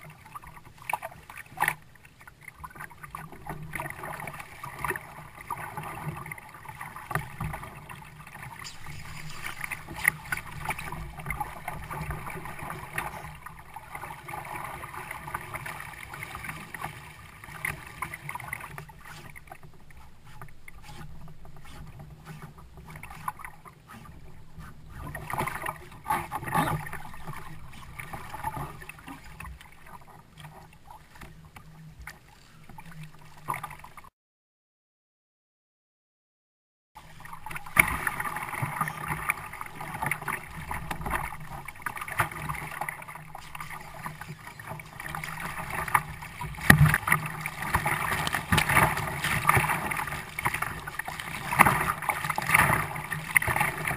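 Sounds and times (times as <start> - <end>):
water splashing against kayak: 0.0 - 34.1, 37.0 - 53.9.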